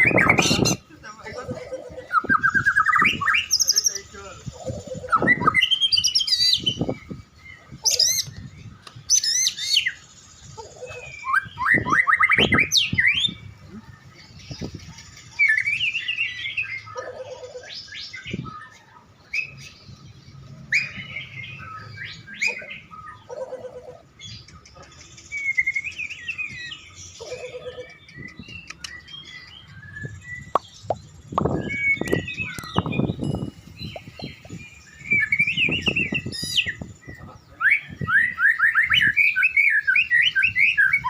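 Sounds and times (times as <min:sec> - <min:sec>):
songbird whistles and trills: 0:00.0 - 0:00.8, 0:02.1 - 0:04.1, 0:04.7 - 0:19.9, 0:20.6 - 0:41.0.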